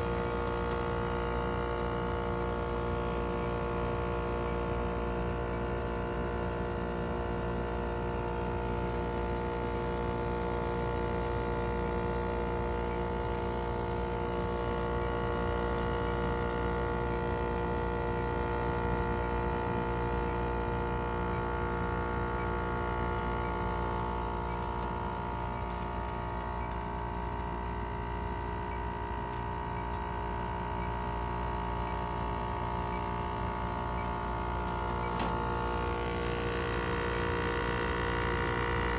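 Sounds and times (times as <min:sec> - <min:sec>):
heat pump humming: 0:00.0 - 0:38.9.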